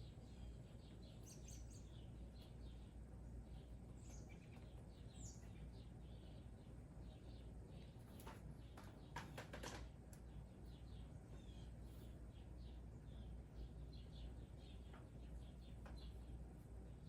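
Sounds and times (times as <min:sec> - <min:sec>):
birds chirping: 0:00.0 - 0:17.0
low steady background noise: 0:00.0 - 0:17.0.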